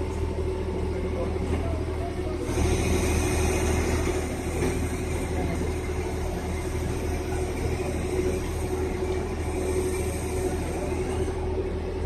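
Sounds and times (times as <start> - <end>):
diesel engine droning: 0.0 - 12.0
steady whine: 0.0 - 12.0.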